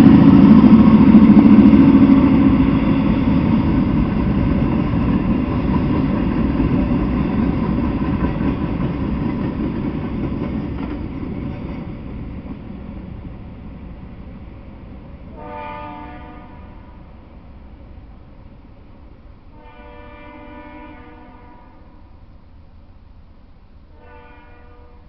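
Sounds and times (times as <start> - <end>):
freight train rumbling by: 0.0 - 25.0.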